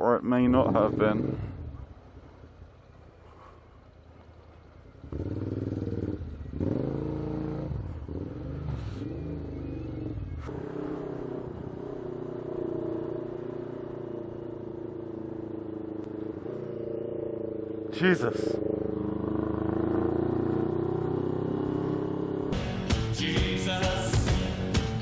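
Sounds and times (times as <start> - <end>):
motorcycle engine revving: 0.3 - 2.7, 4.9 - 25.0.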